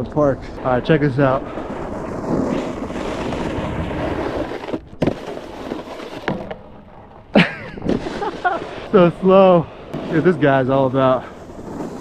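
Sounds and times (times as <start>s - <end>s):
snowboard scraping over snow: 0.0s - 12.0s.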